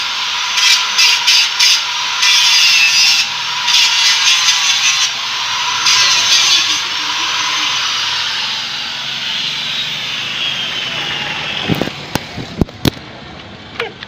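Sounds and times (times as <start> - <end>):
power tool grinding steel: 0.0 - 12.2.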